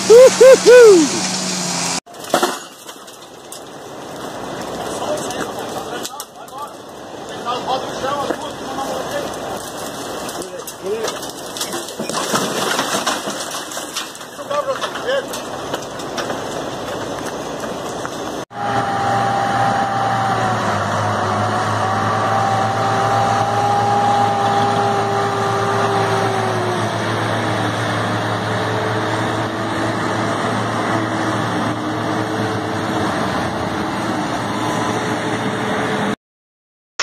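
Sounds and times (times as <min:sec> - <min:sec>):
tractor diesel engines running: 0:00.0 - 0:13.0, 0:13.9 - 0:36.2.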